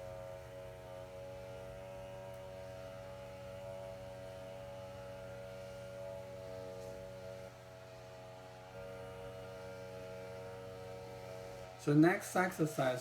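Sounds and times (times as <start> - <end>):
low constant hum: 0.0 - 13.0
soft music of held tones: 0.0 - 13.0.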